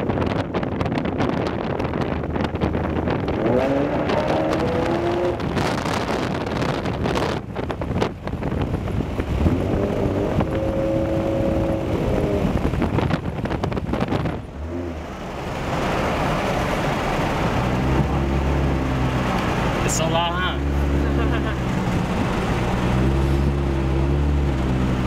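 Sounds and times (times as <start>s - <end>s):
car engine and exhaust driving: 0.0s - 25.0s.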